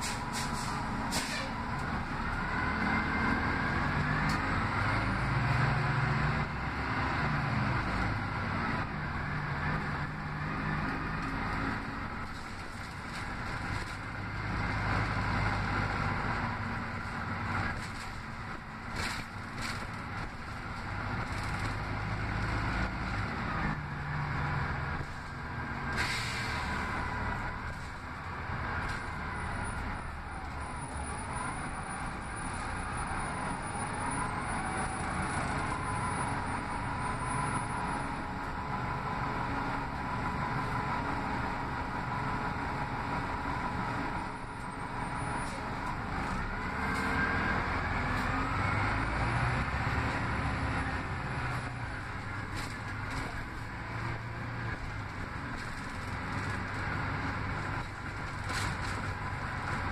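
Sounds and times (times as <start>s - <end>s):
bus engine running: 0.0s - 59.9s
road noise: 0.0s - 59.9s.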